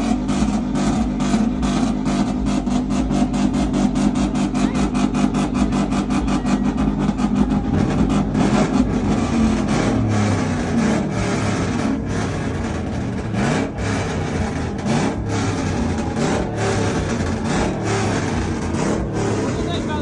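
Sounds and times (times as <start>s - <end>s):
truck engine pulsing: 0.0s - 20.0s.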